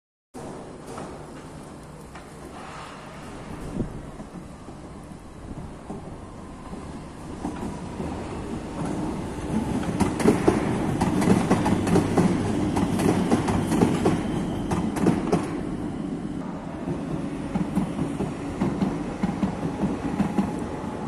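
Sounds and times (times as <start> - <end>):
train wheels on rails: 0.4 - 21.0.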